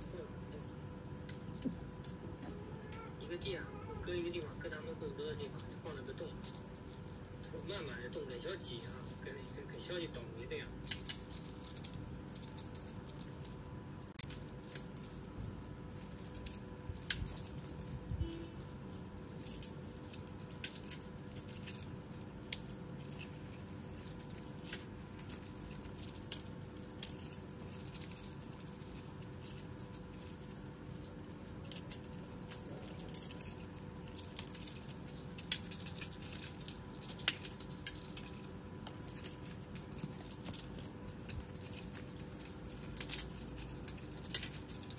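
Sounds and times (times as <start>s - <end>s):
faint hum: 0.0s - 44.9s.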